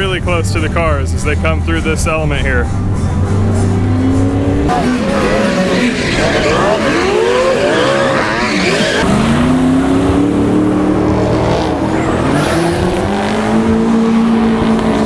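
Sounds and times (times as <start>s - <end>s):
car engines at high revs: 2.9s - 15.0s.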